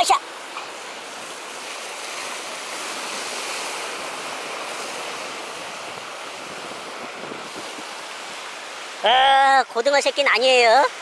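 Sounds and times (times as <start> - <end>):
surf washing over rocks: 0.0 - 11.0.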